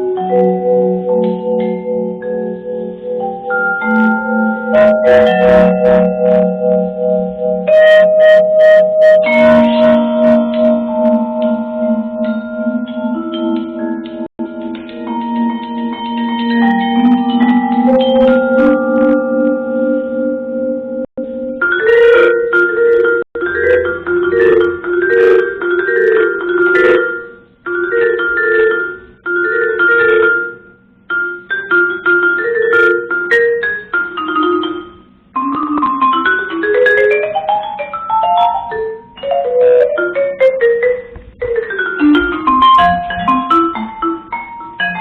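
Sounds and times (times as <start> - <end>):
mallet percussion melody: 0.0 - 45.0.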